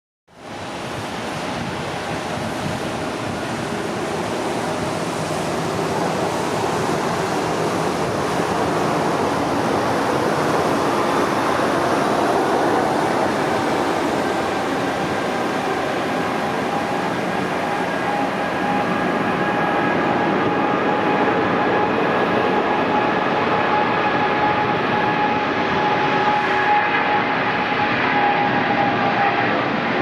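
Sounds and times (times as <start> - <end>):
jet engines roaring: 0.3 - 30.0
steady whining tone: 2.4 - 30.0.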